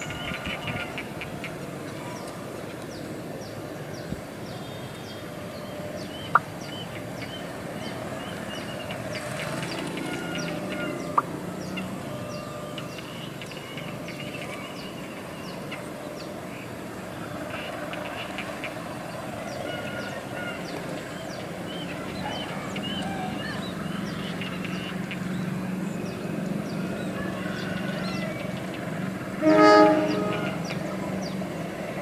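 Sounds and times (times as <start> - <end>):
diesel locomotive engine rumble: 0.0 - 32.0.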